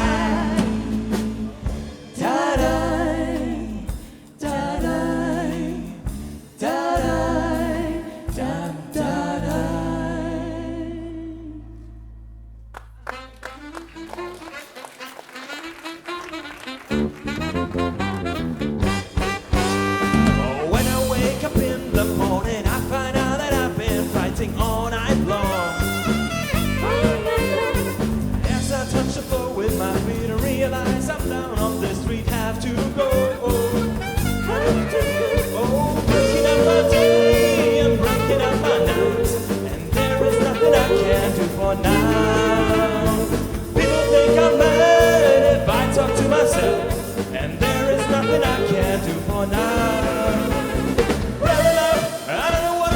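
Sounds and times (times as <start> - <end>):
live band playing swing tune: 0.0 - 4.2, 13.0 - 52.9.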